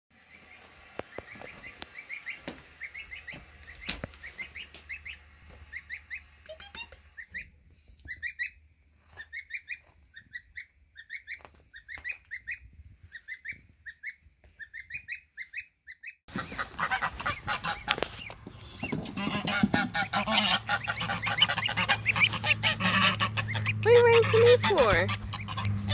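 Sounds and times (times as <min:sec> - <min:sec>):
gosling peeping: 0:00.2 - 0:25.9.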